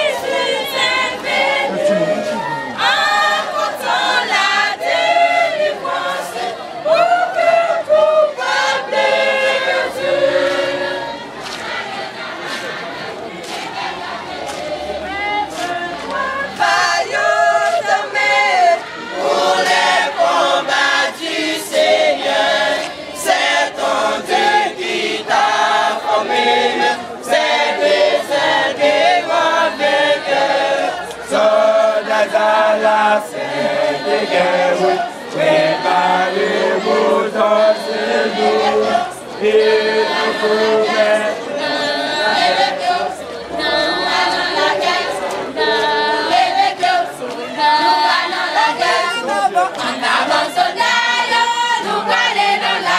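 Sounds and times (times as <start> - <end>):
choir singing a hymn: 0.0 - 52.9.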